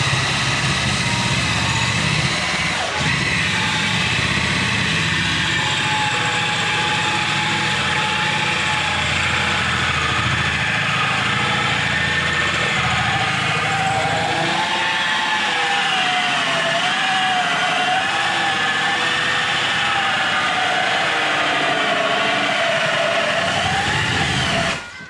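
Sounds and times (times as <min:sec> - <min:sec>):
cordless drill motor whine: 0:00.0 - 0:25.0
hole saw grinding drywall: 0:00.0 - 0:25.0.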